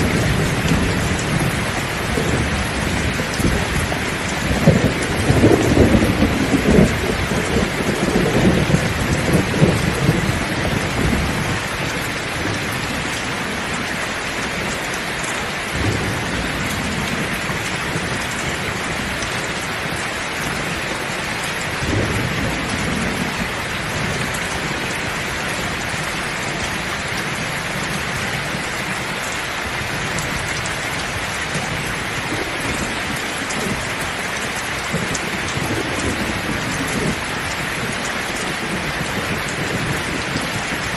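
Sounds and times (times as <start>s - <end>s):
heavy rain pouring: 0.0s - 40.9s
thunder rumbling: 0.0s - 40.9s.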